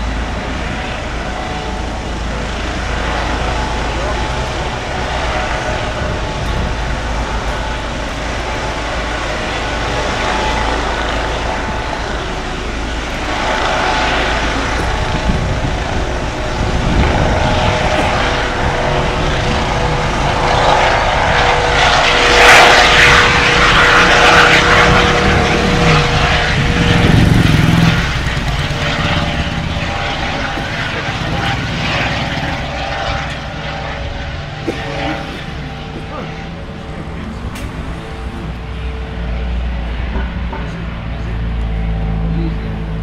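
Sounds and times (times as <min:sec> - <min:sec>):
helicopter rotor noise: 0:00.0 - 0:43.0
turbine whine: 0:00.0 - 0:43.0.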